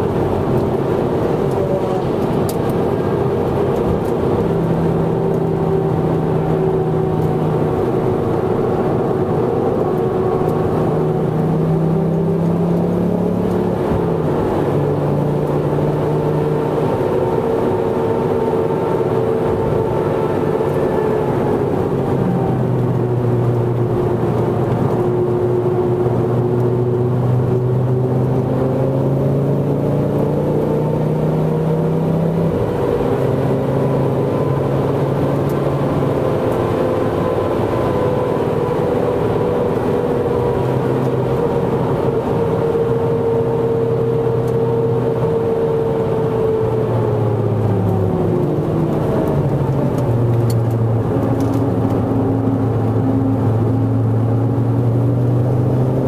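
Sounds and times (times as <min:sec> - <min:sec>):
car engine pulling hard: 0:00.0 - 0:56.0.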